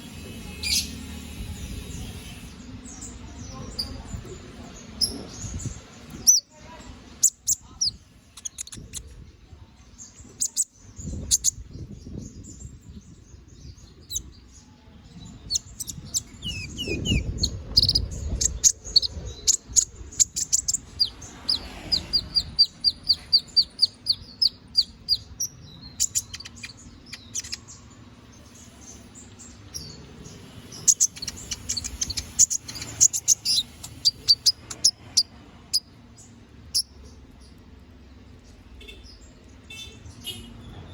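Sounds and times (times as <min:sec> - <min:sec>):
canary singing: 0:00.1 - 0:09.1, 0:10.0 - 0:12.8, 0:13.7 - 0:40.8.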